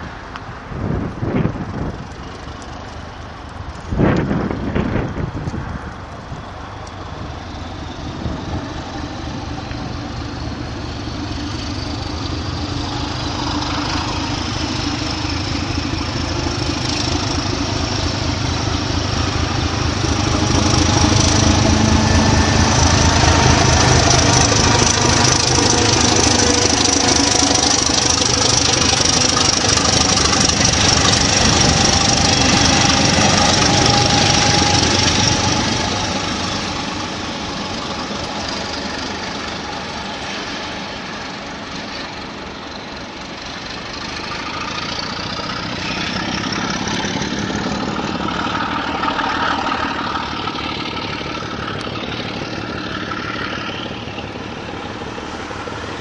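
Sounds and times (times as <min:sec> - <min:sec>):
diesel locomotive engine throbbing: 0:00.0 - 0:56.0
turbocharger whine: 0:00.1 - 0:56.0.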